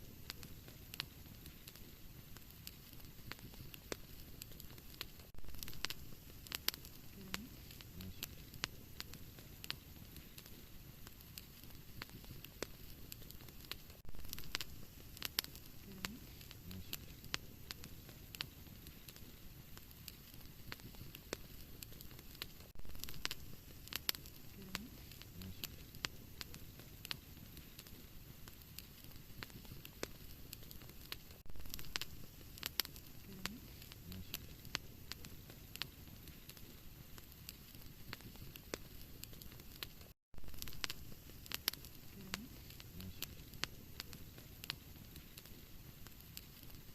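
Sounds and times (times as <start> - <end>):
low hiss: 0.0 - 46.9
wood fire crackling and popping: 0.0 - 46.9.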